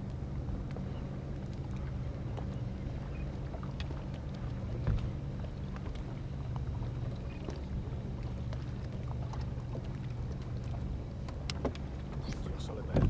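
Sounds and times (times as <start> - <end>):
boat engine running: 0.0 - 13.0
faint clicks and ticks: 0.0 - 13.0.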